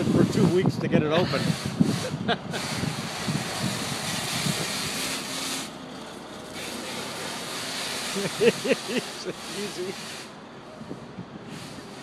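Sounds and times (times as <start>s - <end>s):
forklift engine running: 1.4s - 12.0s.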